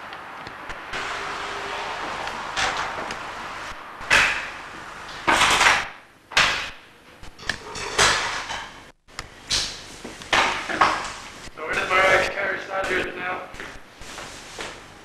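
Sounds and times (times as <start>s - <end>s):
steady hiss: 0.0s - 7.0s, 7.9s - 15.0s.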